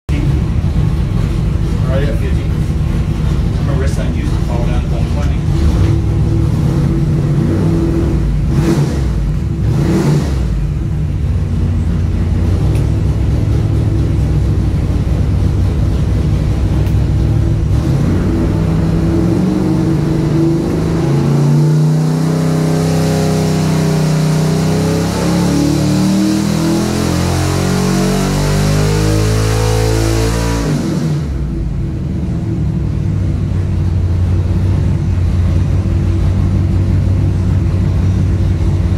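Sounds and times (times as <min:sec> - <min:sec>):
engine revving under load: 0:01.6 - 0:33.2.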